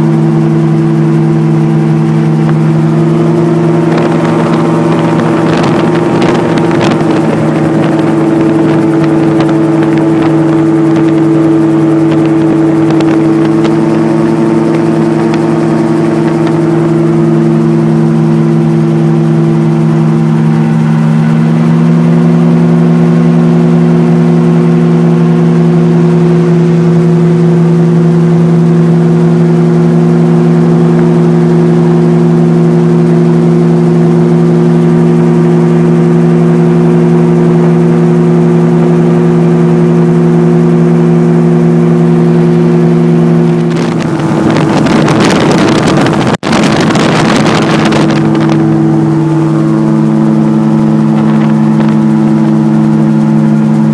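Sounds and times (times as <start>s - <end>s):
gyroplane engine droning: 0.0s - 53.9s.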